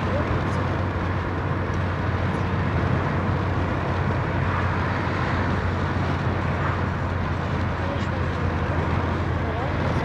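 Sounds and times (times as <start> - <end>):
car engine drone: 0.0 - 10.0
tyres hissing on road: 0.0 - 10.0.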